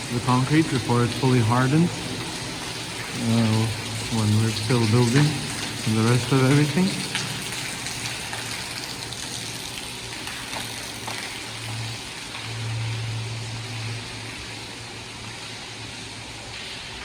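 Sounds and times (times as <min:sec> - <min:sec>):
low steady hum: 0:00.0 - 0:17.0
running water rushing: 0:00.0 - 0:17.0.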